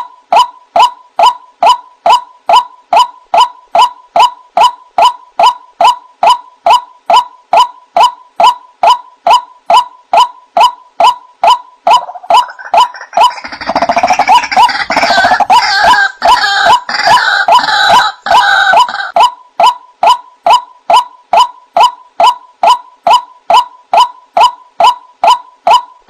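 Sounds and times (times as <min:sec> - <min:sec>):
waterhen kwak calls: 0:03.0 - 0:25.9.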